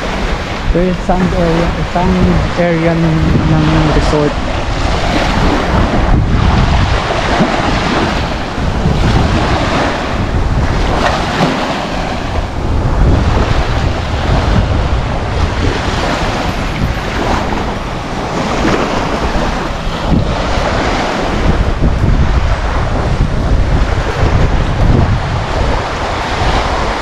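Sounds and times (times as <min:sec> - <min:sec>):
waves lapping on sandy shore: 0:00.0 - 0:27.0
wind buffeting microphone: 0:00.0 - 0:27.0.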